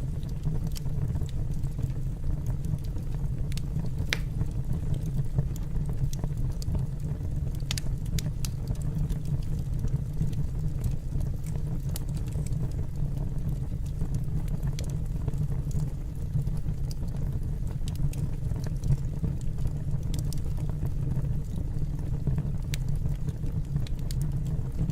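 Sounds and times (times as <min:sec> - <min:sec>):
fire crackling and popping: 0:00.0 - 0:24.9
fire roaring: 0:00.0 - 0:24.9.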